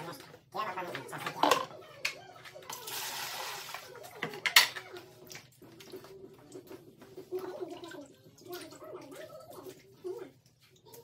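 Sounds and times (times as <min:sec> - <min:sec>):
small wet clicks and rustles: 0:02.0 - 0:11.0.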